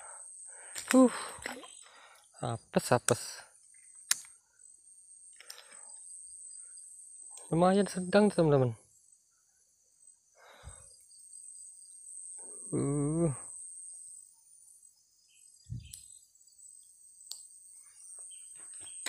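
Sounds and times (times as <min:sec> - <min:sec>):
crickets or cicadas chorus: 0:00.0 - 0:19.0.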